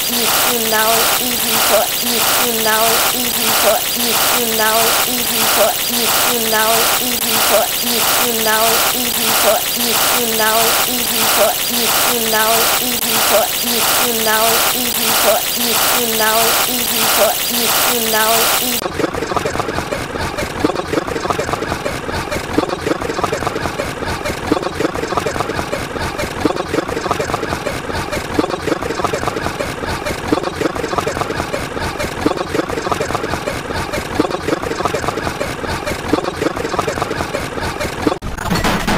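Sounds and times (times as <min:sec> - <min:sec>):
jumble of overlapping sounds: 0:00.0 - 0:38.2
voices: 0:00.0 - 0:38.2.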